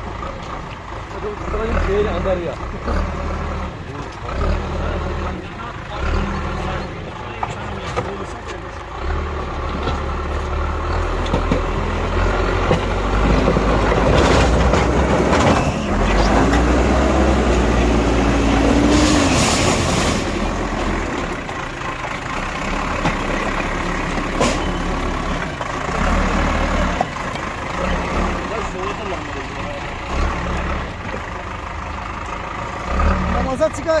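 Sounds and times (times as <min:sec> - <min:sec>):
bulldozer diesel engine droning: 0:00.0 - 0:34.0.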